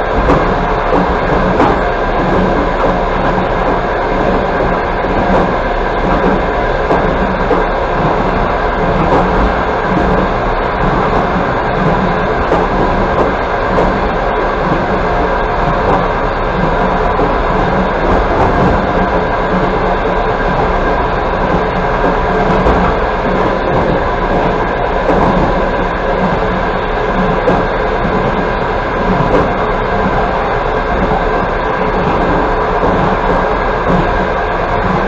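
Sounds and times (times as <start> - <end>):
train wheels rolling on rail: 0.0 - 35.0.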